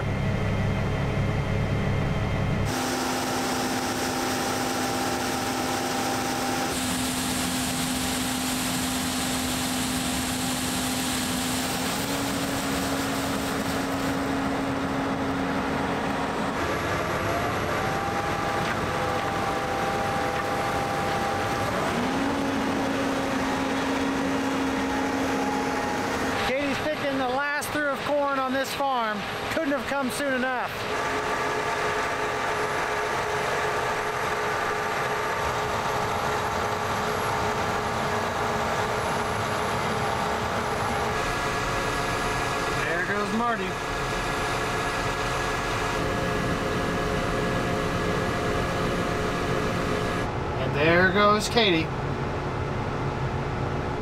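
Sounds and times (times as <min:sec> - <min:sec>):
tractor engine running: 0:00.0 - 0:54.0
auger unloading grain: 0:02.6 - 0:51.8.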